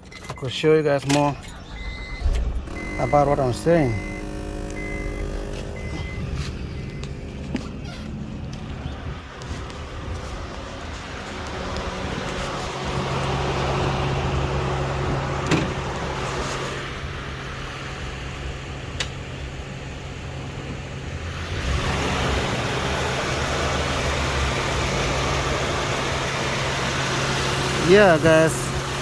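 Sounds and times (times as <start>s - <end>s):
car engine idling: 0.0s - 29.0s
power steering pump drone: 0.0s - 29.0s.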